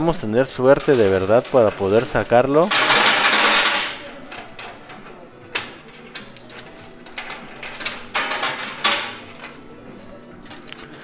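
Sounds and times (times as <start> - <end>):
pusher mechanism running: 0.0 - 11.0
coins clattering: 0.6 - 11.0.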